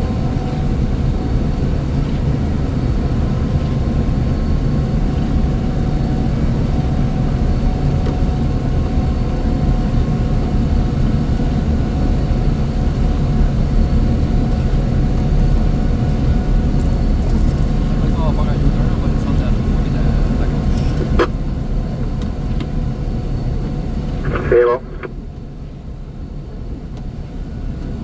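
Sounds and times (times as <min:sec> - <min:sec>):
faint steady whine: 0:00.0 - 0:28.0
heavy machinery engine drone: 0:00.0 - 0:28.0.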